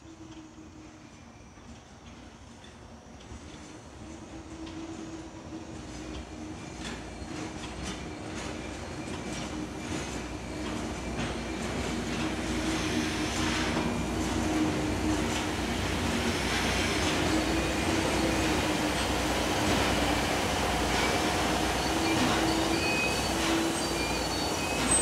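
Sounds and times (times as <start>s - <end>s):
train rolling past rumble: 0.1s - 25.0s.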